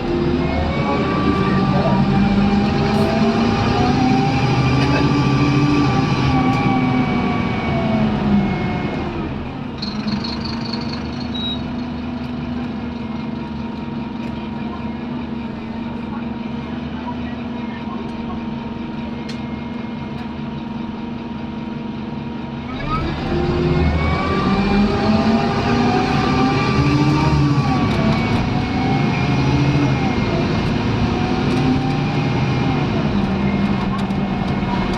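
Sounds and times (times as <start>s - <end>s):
bus diesel engine: 0.0s - 34.9s.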